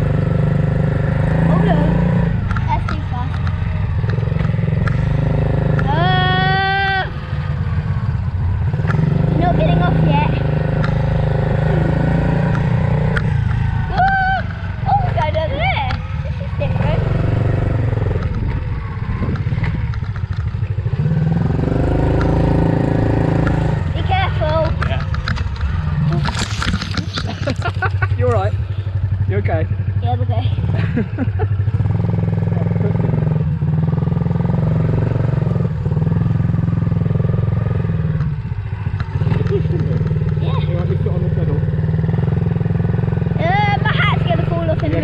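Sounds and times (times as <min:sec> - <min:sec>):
motorbike engine running: 0:00.0 - 0:45.0.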